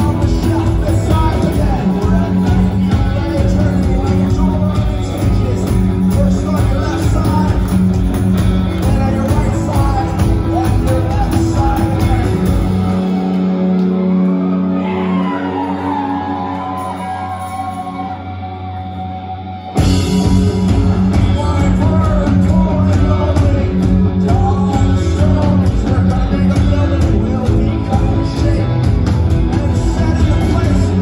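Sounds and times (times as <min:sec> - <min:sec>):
person singing: 0:00.0 - 0:19.1, 0:20.6 - 0:31.0
bass guitar: 0:00.0 - 0:31.0
drums: 0:00.0 - 0:31.0
electric guitars: 0:00.0 - 0:31.0.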